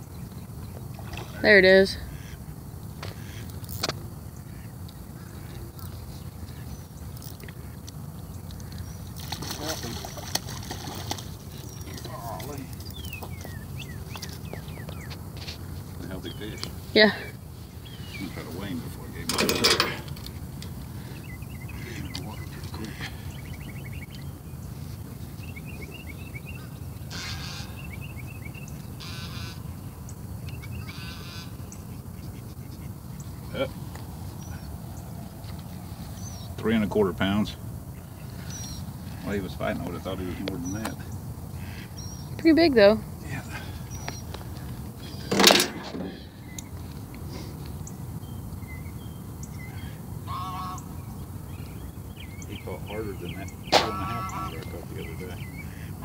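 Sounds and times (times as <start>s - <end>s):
birds chirping: 0.0s - 56.0s
harsh bird calls: 0.8s - 56.0s.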